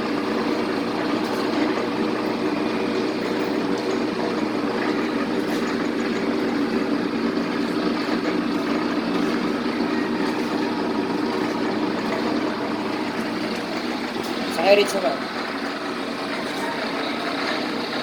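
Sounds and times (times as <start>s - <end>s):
lathe running: 0.0s - 18.0s.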